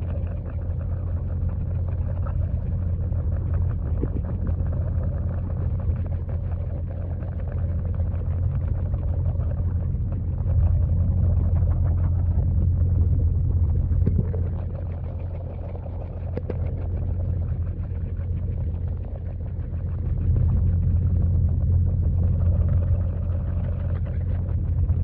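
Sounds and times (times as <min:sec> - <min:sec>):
faint crackle: 0:00.0 - 0:25.0
muffled underwater waterfall rumble: 0:00.0 - 0:25.0.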